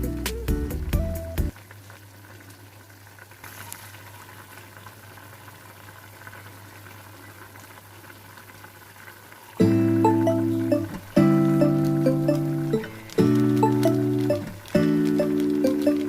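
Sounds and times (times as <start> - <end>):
sauce bubbling in a pan: 1.5 - 16.0.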